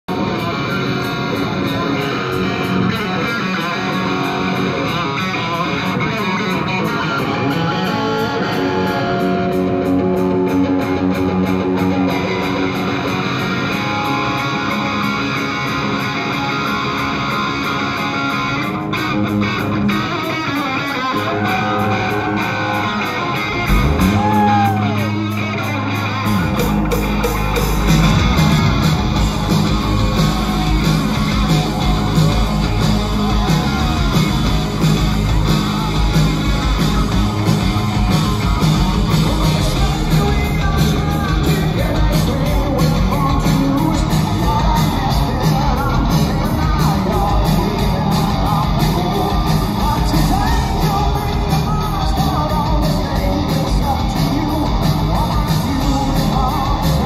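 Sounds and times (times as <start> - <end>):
heavy bass: 0.0 - 20.2, 21.2 - 57.0
electric guitar lead notes: 0.1 - 57.0.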